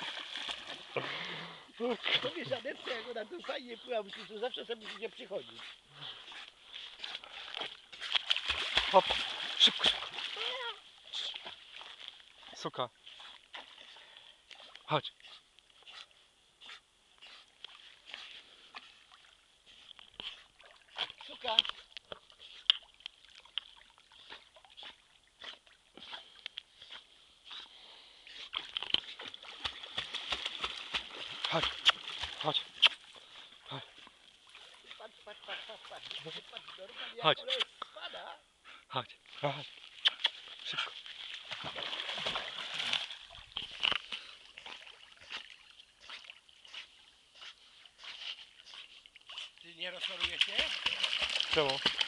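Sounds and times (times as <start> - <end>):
dog paddling water splashing: 0.0 - 16.1, 17.3 - 27.4, 28.2 - 37.1, 39.7 - 52.0.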